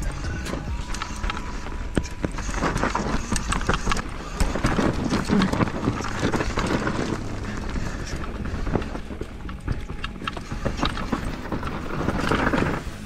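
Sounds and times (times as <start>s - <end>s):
mountain bike rattling: 0.0s - 13.0s
wheels knocking on rocks: 0.0s - 13.0s.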